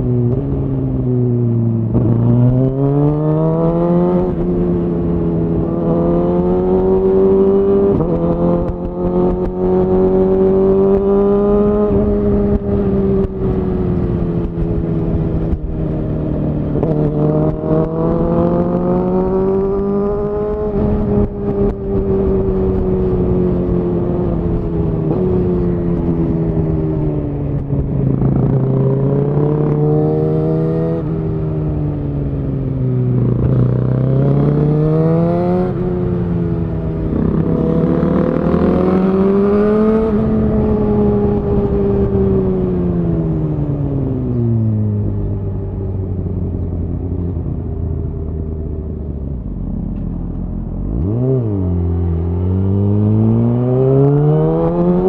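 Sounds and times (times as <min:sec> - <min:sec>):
motorcycle engine revving: 0:01.7 - 0:43.6, 0:46.2 - 0:55.0.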